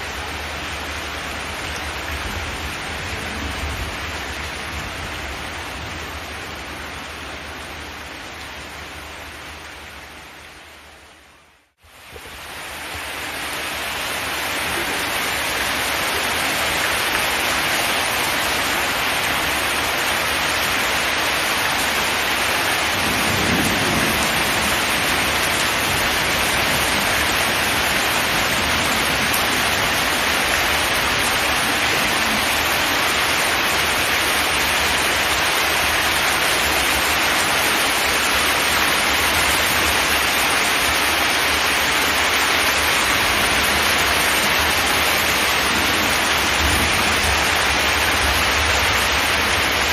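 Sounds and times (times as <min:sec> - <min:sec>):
heavy rain on a metal roof: 0:00.0 - 0:49.9.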